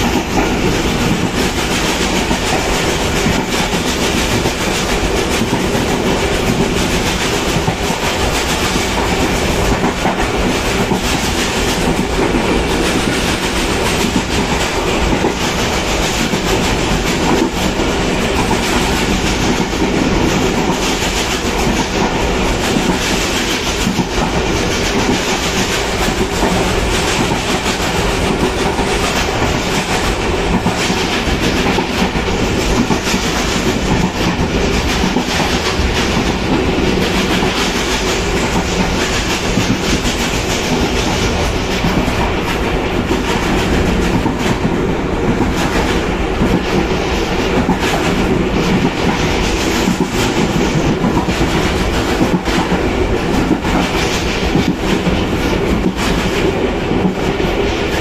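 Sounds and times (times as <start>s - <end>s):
train rumbling at speed: 0.0s - 58.0s.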